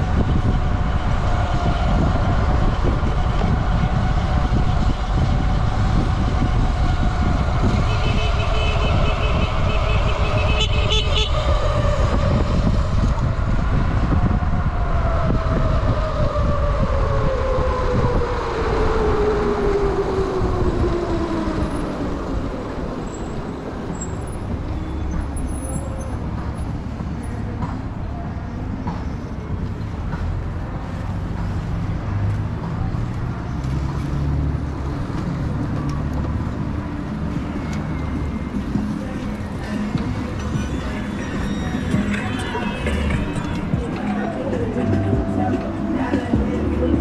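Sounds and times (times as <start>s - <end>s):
road rumble: 0.0s - 47.0s
wind: 0.0s - 47.0s.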